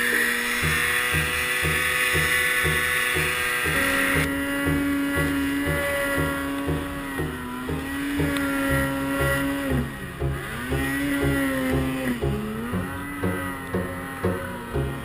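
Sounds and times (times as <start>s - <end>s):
snowmobile engine revving: 0.0s - 15.0s
background music beat: 0.2s - 15.0s.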